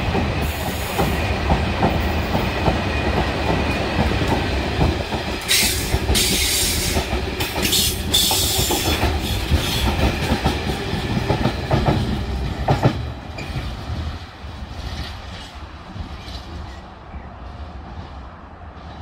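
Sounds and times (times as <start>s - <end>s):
freight train wheels clacking: 0.0s - 17.0s.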